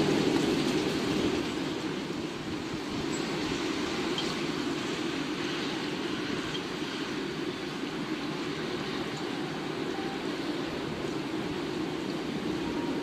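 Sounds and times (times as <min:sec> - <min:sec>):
rainstorm: 0:00.0 - 0:13.0
wind: 0:00.0 - 0:13.0.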